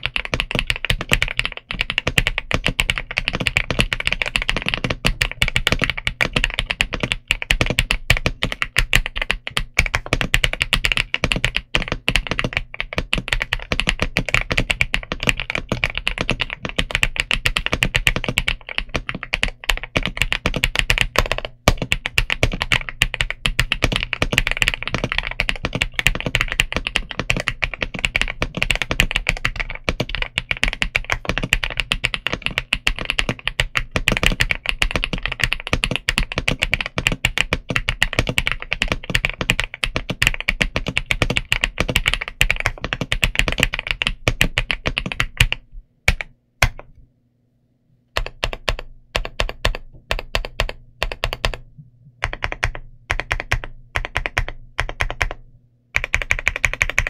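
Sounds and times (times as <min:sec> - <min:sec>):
mechanical keyboard typing: 0:00.0 - 0:46.9, 0:48.2 - 0:55.4, 0:56.0 - 0:57.0.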